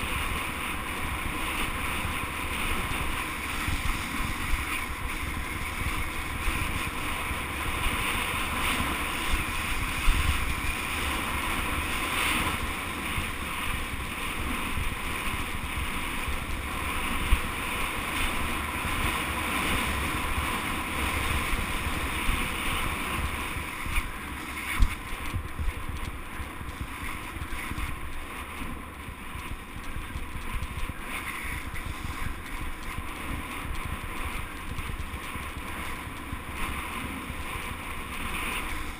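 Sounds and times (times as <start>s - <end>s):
bike tyres rolling on dirt: 0.0s - 38.9s
wind rushing over microphone: 0.0s - 38.9s.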